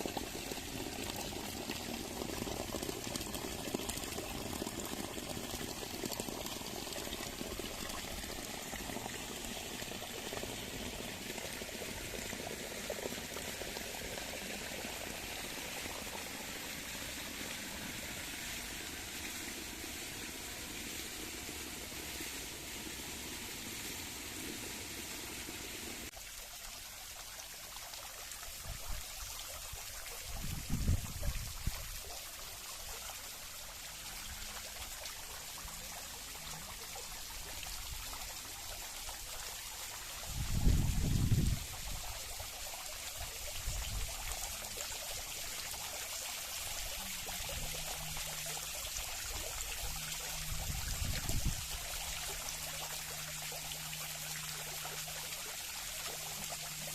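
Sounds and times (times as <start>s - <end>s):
water running and trickling: 0.0s - 56.9s.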